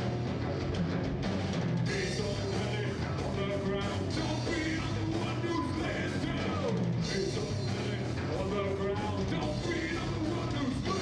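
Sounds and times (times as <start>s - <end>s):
bass guitar: 0.0s - 11.0s
distorted electric guitar: 0.0s - 11.0s
drum kit beat: 0.0s - 11.0s.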